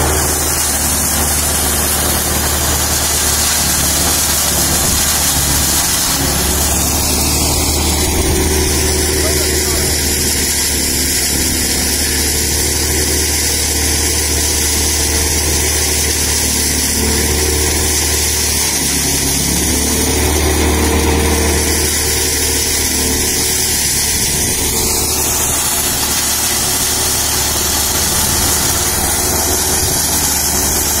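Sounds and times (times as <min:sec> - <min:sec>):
blower motor hum: 0:00.0 - 0:31.0
rush of air and straw: 0:00.0 - 0:31.0.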